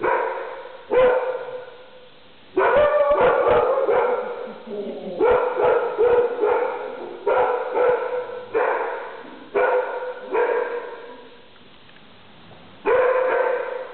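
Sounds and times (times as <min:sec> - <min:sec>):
dog barking with echo: 0:00.0 - 0:02.0, 0:02.6 - 0:04.6, 0:05.2 - 0:11.4, 0:12.9 - 0:13.9.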